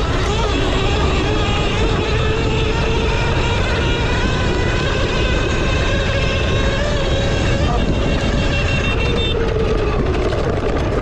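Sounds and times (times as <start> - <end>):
electric dirt bike motor whine: 0.0 - 11.0
low rumble: 0.0 - 11.0.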